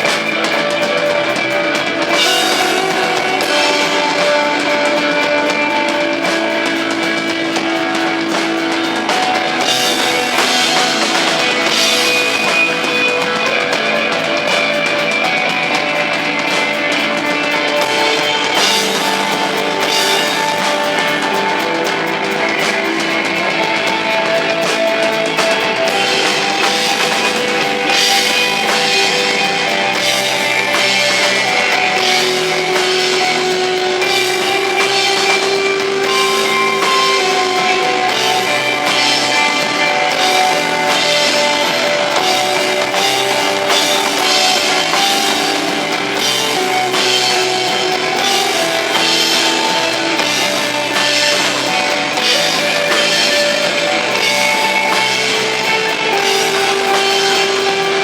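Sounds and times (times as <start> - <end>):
drum kit beat: 0.0 - 58.0
electric guitar sustaining notes: 0.0 - 58.0.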